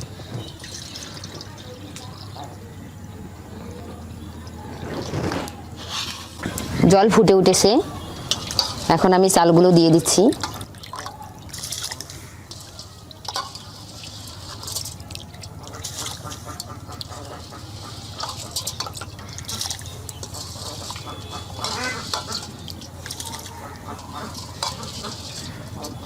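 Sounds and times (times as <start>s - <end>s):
water boiling and bubbling: 0.0s - 26.0s.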